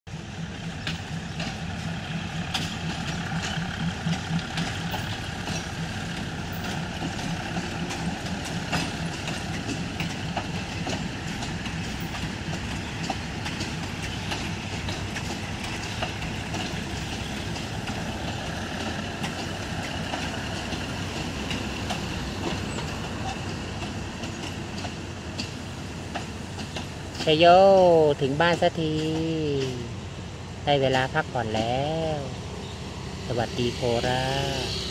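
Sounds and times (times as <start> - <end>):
wheels clicking over rail joints: 0.1 - 30.1
train rolling with low hum: 0.1 - 34.9.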